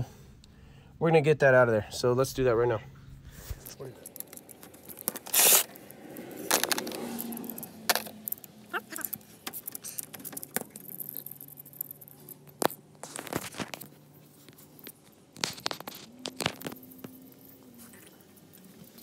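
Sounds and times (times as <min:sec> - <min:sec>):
rustling of wires: 0:03.2 - 0:19.0.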